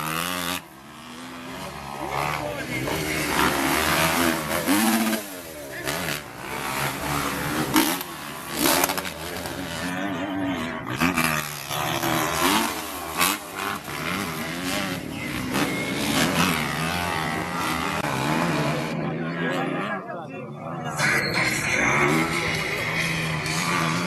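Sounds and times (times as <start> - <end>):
motorcycle engines racing: 0.0 - 24.0.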